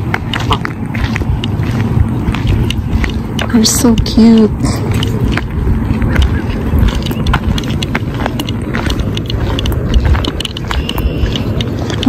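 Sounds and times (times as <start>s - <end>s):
light clicks and ticks: 0.0s - 12.0s
wind buffeting microphone: 0.0s - 12.0s.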